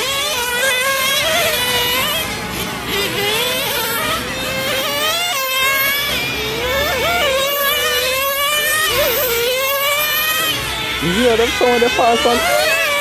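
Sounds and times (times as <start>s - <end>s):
rc car engines buzzing: 0.0s - 13.0s.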